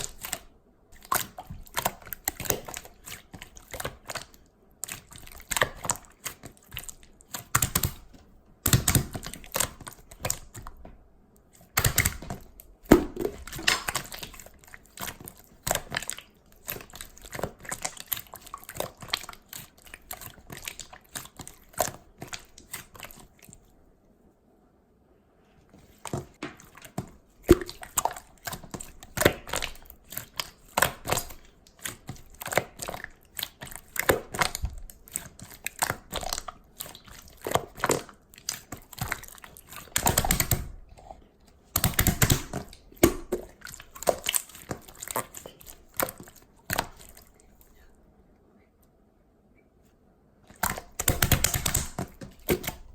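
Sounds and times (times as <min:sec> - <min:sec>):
slime squished by hand: 0:00.0 - 0:23.7, 0:25.8 - 0:47.9, 0:50.5 - 0:52.9.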